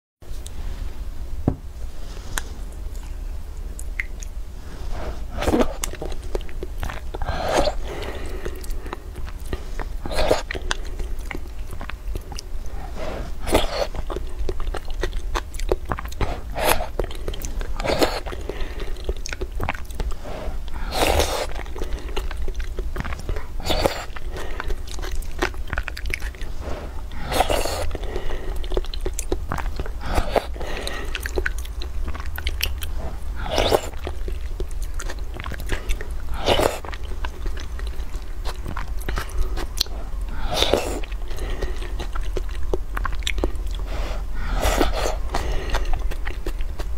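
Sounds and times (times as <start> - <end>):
steady low hum: 0.2 - 46.9
person chewing soft food: 2.1 - 46.9.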